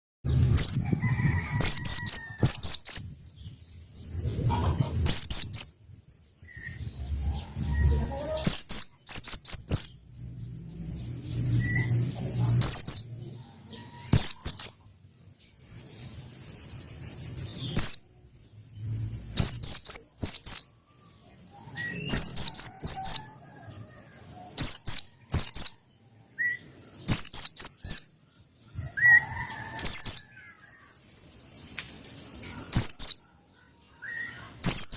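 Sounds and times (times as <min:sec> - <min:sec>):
bird chirping rapidly: 0:00.3 - 0:20.8, 0:21.7 - 0:23.7, 0:24.5 - 0:33.2, 0:34.0 - 0:34.9.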